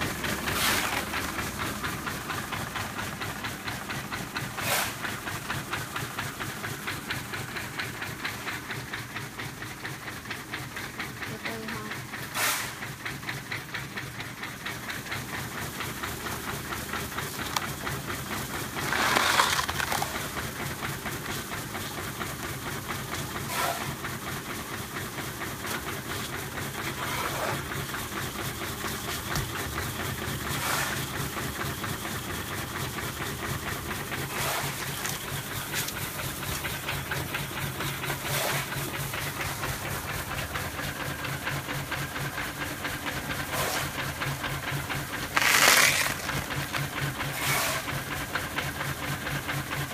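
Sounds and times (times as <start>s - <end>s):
machinery rattling and humming: 0.0s - 49.9s.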